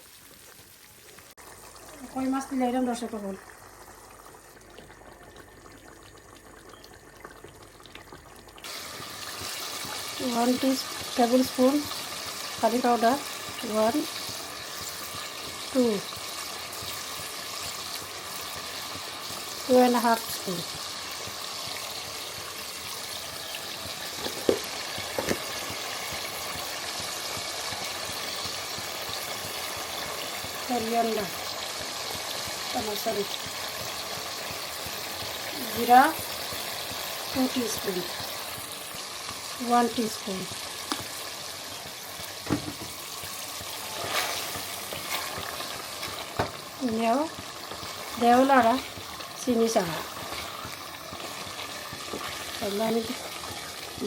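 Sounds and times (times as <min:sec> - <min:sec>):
fish sizzling in a pan: 0:00.0 - 0:54.0.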